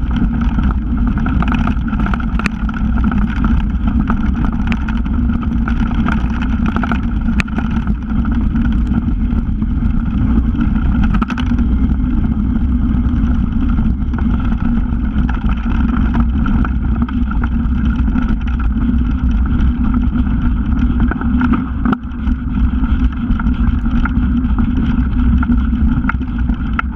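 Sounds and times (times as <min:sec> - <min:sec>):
bike clicking and rattling: 0:00.0 - 0:26.9
wind noise on microphone: 0:00.0 - 0:26.9.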